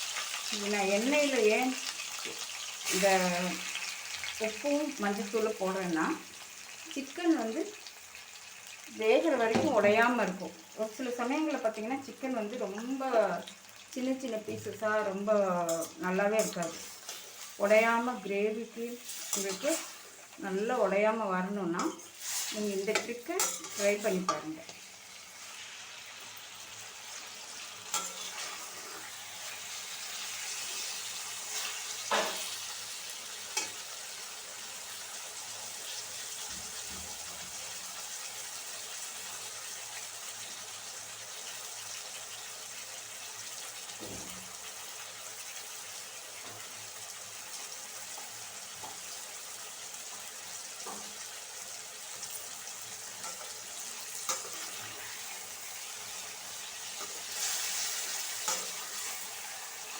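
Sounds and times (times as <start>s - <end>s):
meat sizzling in hot oil: 0.0s - 59.9s.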